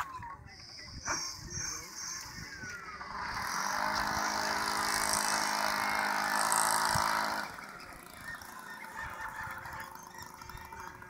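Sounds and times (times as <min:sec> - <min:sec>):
steady motor hum: 0:00.0 - 0:11.0.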